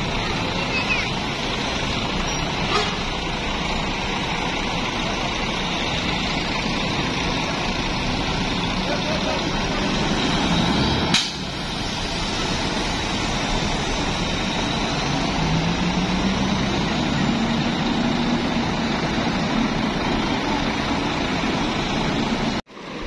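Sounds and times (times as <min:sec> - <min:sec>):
bus engine humming: 0:00.0 - 0:23.0
vehicle noise: 0:00.0 - 0:23.0.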